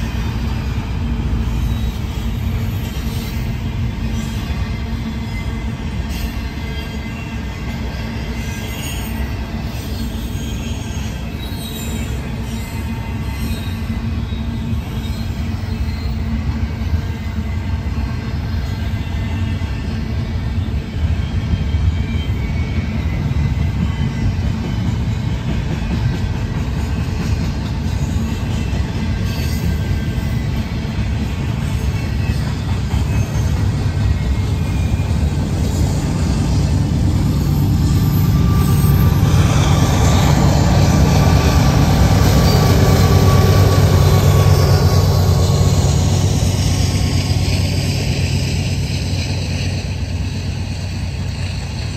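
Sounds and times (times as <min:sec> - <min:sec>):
diesel locomotive engine running: 0:00.0 - 0:51.9
freight train wheels rumbling: 0:00.0 - 0:51.9.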